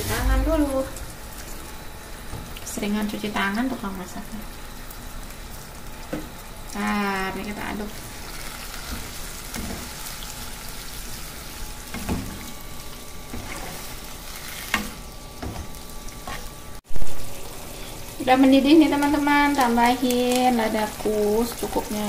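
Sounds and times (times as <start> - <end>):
broth bubbling in a wok: 0.2 - 22.0.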